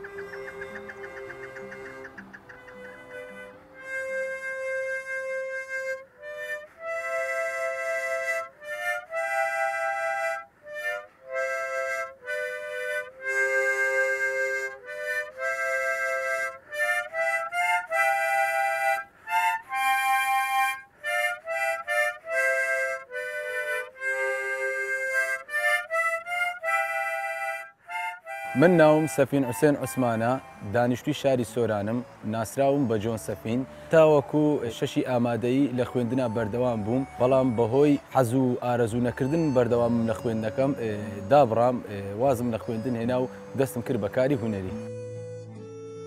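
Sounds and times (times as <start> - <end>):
harmonica melody: 0.0 - 46.0.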